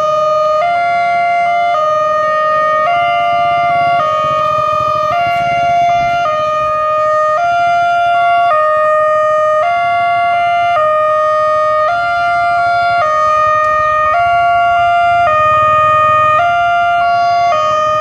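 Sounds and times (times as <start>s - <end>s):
two-tone level-crossing alarm: 0.0s - 18.0s.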